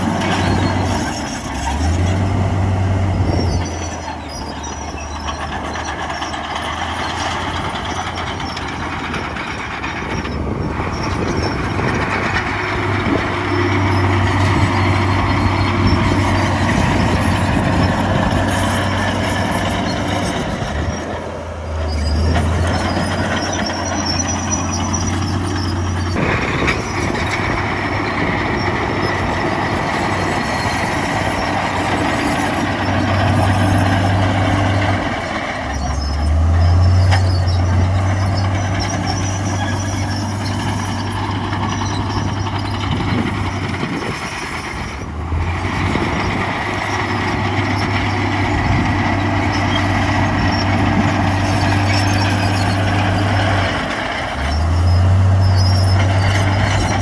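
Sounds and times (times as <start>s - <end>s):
heavy diesel engines working: 0.0s - 57.0s.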